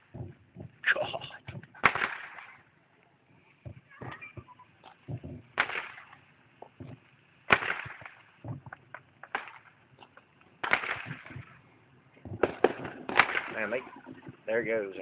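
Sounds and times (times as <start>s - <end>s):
distant fireworks bangs: 0.0s - 2.8s, 3.6s - 15.0s
faint fireworks pops: 0.0s - 15.0s.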